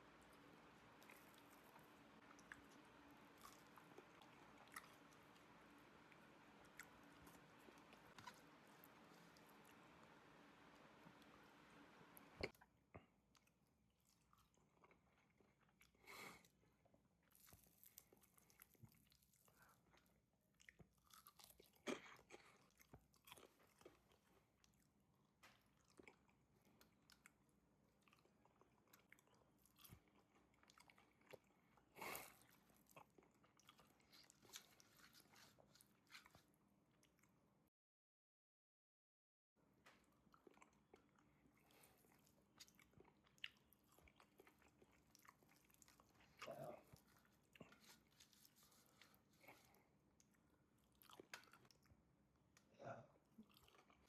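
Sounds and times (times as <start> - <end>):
person chewing crunchy food: 0.1 - 12.7, 13.3 - 16.6, 17.2 - 24.9, 28.0 - 37.3, 40.0 - 51.9, 53.4 - 54.0.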